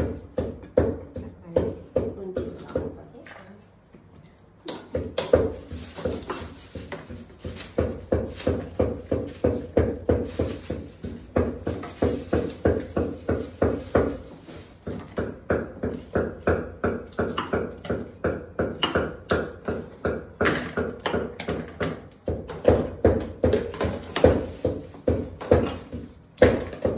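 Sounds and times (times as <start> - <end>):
knife chopping on wooden board: 0.0 - 3.0, 4.7 - 26.9.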